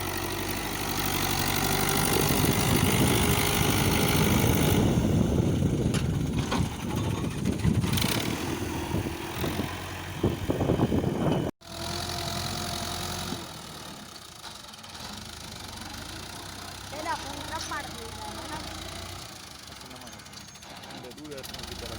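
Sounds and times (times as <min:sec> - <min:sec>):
diesel tractor engine clattering: 0:00.0 - 0:21.9.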